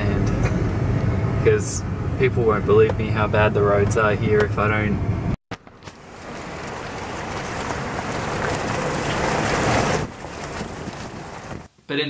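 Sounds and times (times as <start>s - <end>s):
tyre and road noise: 0.0s - 11.9s.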